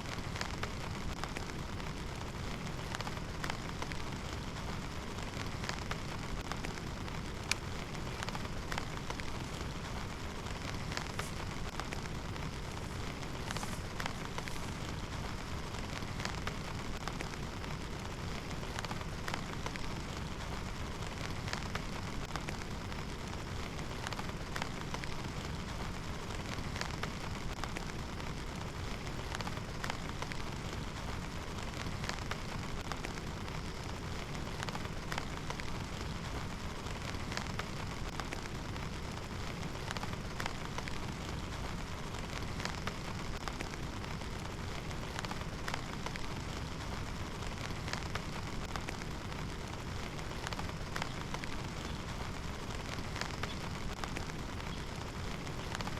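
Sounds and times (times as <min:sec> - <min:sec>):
heavy rain falling: 0:00.0 - 0:55.9
raindrops striking close by: 0:00.0 - 0:55.9.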